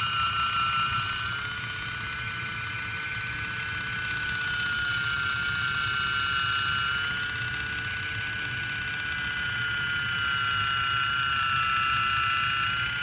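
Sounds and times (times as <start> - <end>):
electric can opener motor whine: 0.0 - 13.0.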